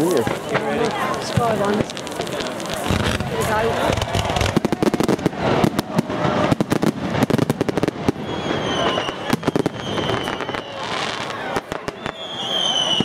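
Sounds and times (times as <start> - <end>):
fireworks bangs and crackles: 0.0 - 13.0
whistling firework: 0.2 - 13.0.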